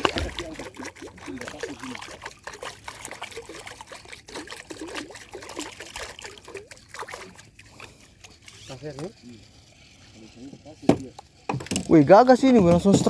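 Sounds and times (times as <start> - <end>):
small water splashes: 0.0 - 12.2
water trickling and gurgling: 0.0 - 13.0.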